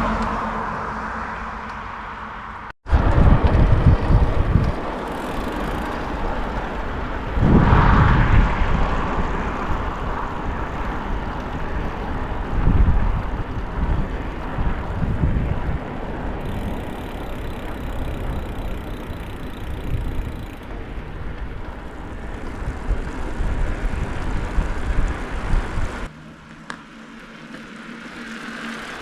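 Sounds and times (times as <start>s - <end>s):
wind buffeting microphone: 2.8s - 26.1s.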